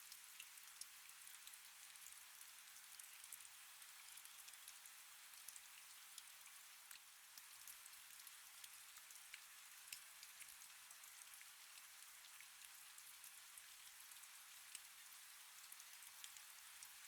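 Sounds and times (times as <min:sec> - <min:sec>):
faint rain: 0:00.0 - 0:17.0.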